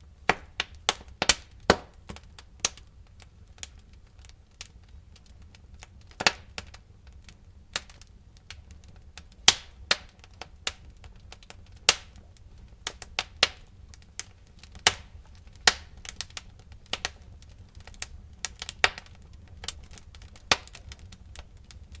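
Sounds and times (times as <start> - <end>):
campfire wood crackling: 0.0 - 22.0
low rumble of burning fire: 0.0 - 22.0.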